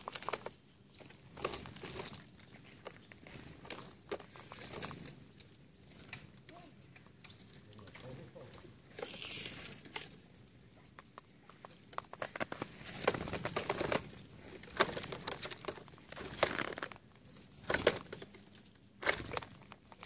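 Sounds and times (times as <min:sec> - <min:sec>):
birds fluttering wings: 0:00.0 - 0:10.3, 0:11.1 - 0:20.0
sharp taps and rustles: 0:00.0 - 0:20.0.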